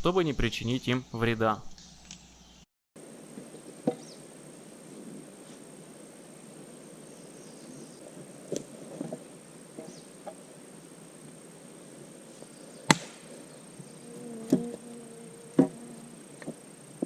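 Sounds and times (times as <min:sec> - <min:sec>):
faint insect hum: 0:00.0 - 0:17.0.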